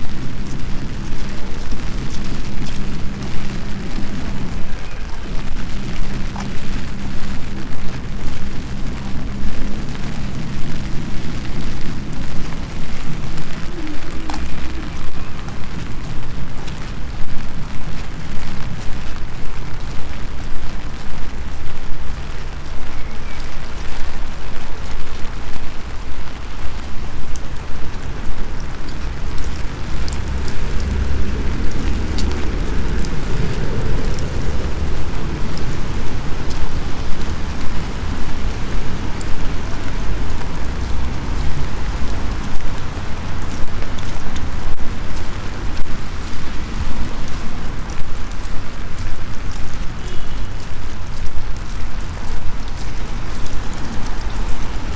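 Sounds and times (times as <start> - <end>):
loud uneven low rumble: 0.0 - 54.9
steady rain: 0.0 - 54.9.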